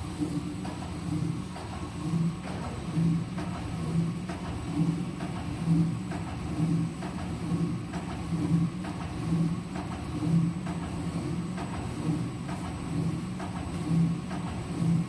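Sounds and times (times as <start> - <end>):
machine running hum: 0.0 - 15.0.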